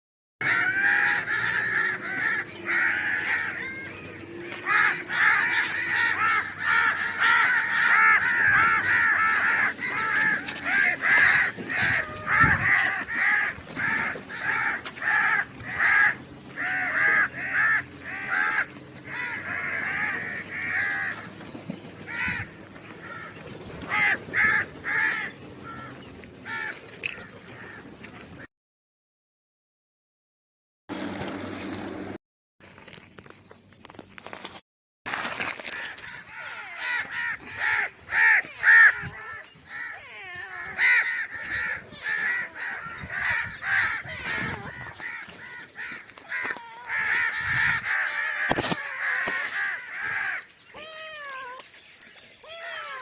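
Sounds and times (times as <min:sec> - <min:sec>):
crows cawing: 0:00.4 - 0:21.4, 0:22.0 - 0:28.4, 0:35.5 - 0:51.6.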